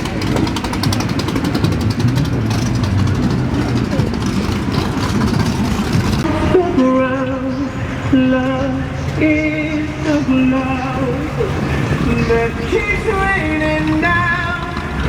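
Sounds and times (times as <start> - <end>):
car engine running loudly: 0.0 - 15.0.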